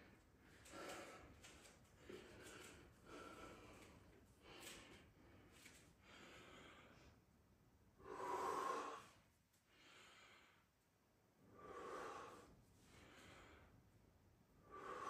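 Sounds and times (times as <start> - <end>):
person breathing: 0.0 - 7.2, 8.0 - 10.8, 11.4 - 13.9, 14.6 - 15.0.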